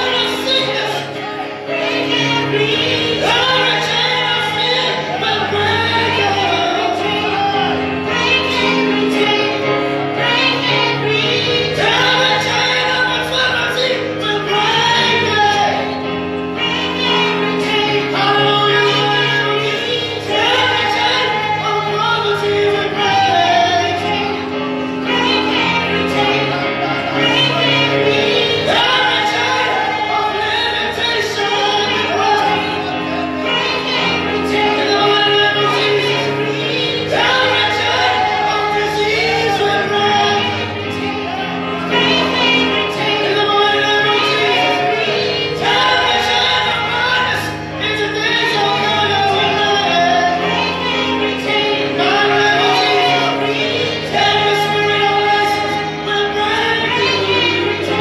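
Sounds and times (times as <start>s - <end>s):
sustained instrumental chords: 0.0s - 58.0s
woman singing into microphone: 0.0s - 58.0s.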